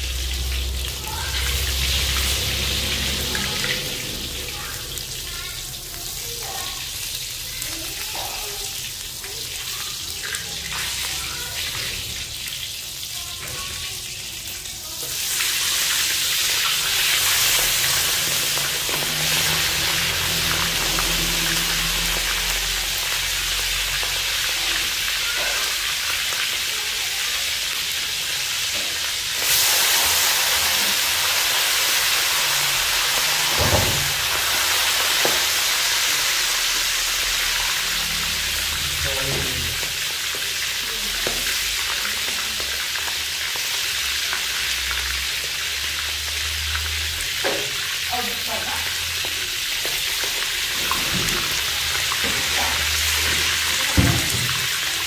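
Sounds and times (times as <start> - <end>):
utensil knocking wok: 0.0 - 13.8, 14.9 - 26.8, 27.7 - 55.0
frogs sizzling in oil: 0.0 - 55.0.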